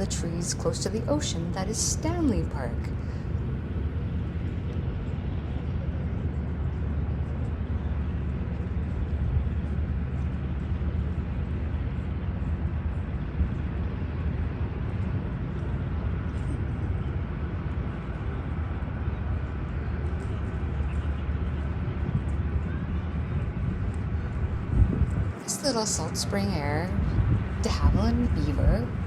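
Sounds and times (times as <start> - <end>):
radial aircraft engine rumbling: 0.0 - 29.0.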